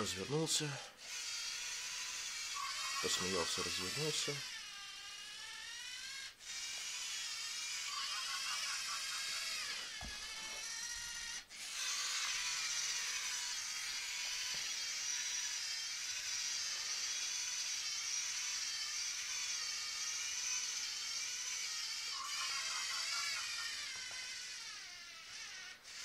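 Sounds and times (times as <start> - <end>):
servo motors whining: 0.0 - 26.0.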